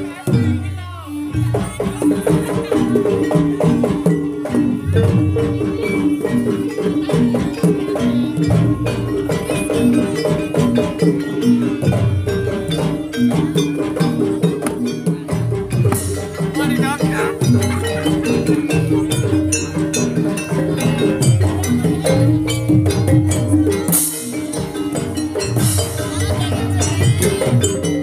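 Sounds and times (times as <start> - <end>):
drum strokes: 0.0 - 28.0
rattling percussion: 0.0 - 28.0.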